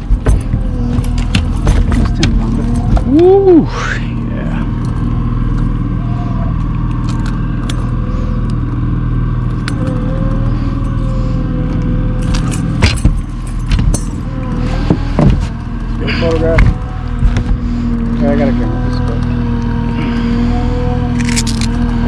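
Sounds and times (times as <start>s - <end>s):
gear clicking and rattling: 0.0s - 3.5s, 4.4s - 22.0s
boat engine droning: 0.0s - 22.0s.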